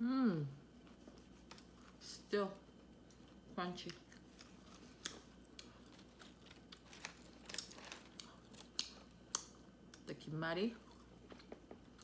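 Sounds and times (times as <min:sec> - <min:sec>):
chewing crispy fried food: 0:01.0 - 0:10.1, 0:10.8 - 0:12.0.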